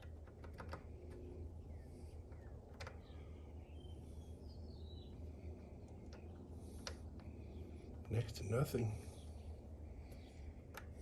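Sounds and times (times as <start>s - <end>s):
steady low hum: 0.0s - 11.0s
faint bird chirps: 1.1s - 11.0s.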